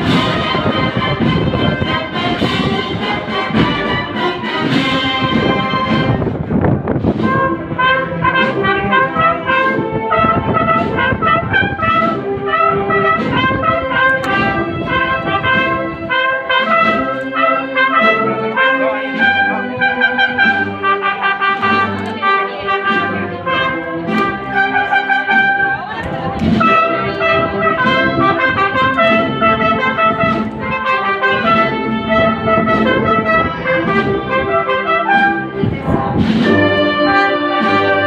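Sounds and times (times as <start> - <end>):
brass band playing a march: 0.0 - 38.0.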